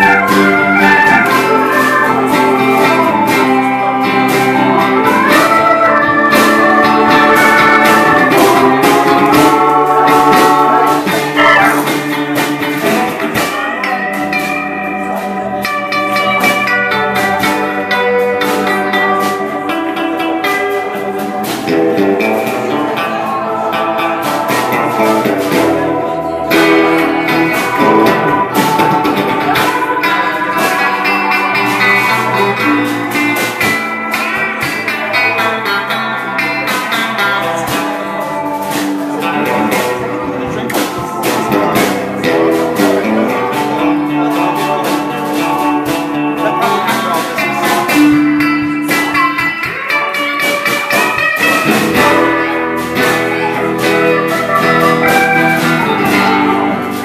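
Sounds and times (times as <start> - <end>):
double bass: 0.0 - 49.8, 51.4 - 57.0
electric guitar: 0.0 - 57.0
keyboard: 0.0 - 57.0.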